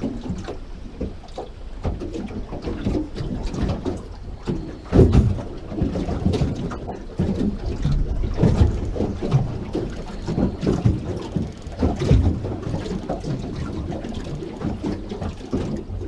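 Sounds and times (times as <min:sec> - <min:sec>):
water slapping against boat hull: 0:00.0 - 0:16.0
wind buffeting microphone: 0:00.0 - 0:16.0.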